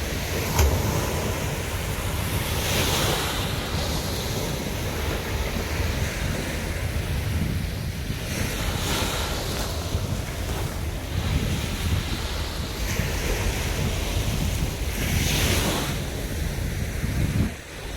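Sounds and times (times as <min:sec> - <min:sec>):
surf breaking on a beach: 0:00.0 - 0:17.9
wind buffeting microphone: 0:00.0 - 0:17.9.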